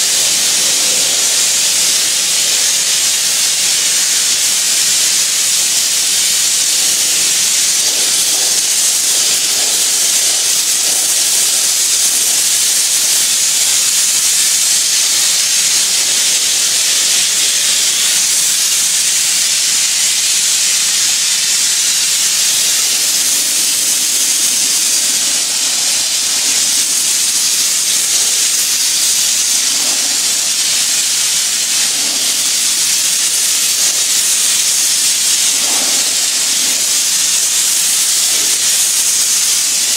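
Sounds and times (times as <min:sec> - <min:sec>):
flame spray torch hissing: 0:00.0 - 0:39.9.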